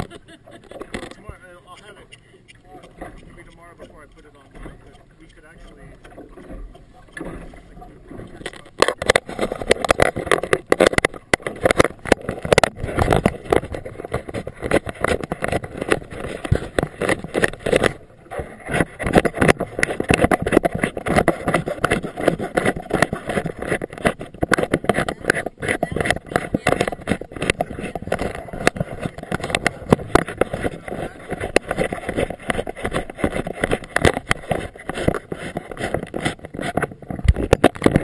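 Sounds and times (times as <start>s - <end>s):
outboard motorboat: 0.0s - 38.0s
water slapping against hull: 0.0s - 38.0s.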